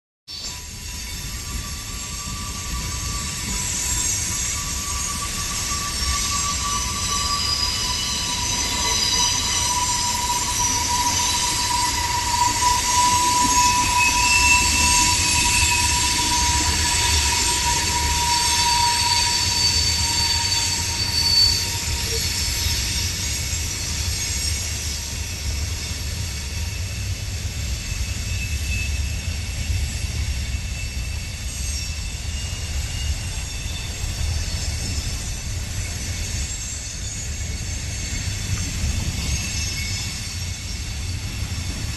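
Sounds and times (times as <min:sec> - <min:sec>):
train rumbling on rails: 0:00.3 - 0:41.9
wheel squeal: 0:00.3 - 0:41.9.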